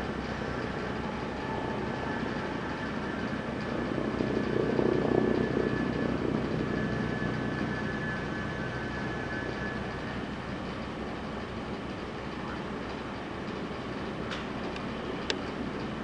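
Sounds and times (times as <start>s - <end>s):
helicopter rotor chop: 0.0s - 16.0s
turbine whine: 0.0s - 16.0s.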